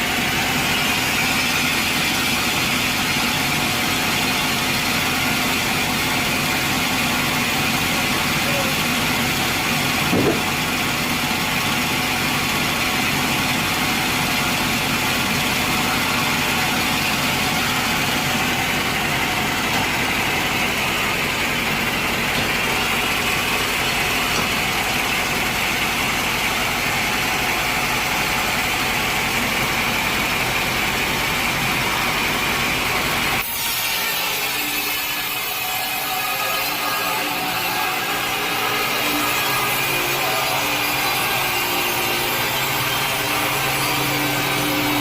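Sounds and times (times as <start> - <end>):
engine droning: 0.0 - 33.6, 34.6 - 45.0.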